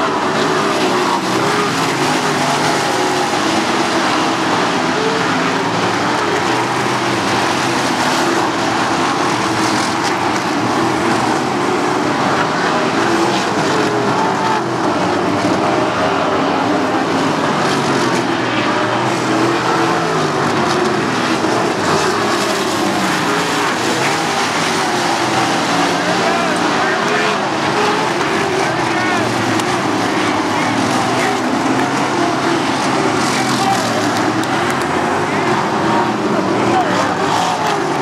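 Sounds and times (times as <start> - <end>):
racing car engines: 0.0 - 38.0.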